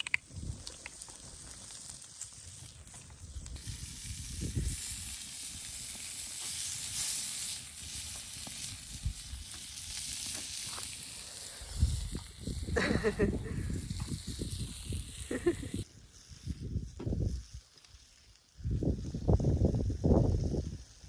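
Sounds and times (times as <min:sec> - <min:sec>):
sizzling hiss: 0:00.0 - 0:21.0.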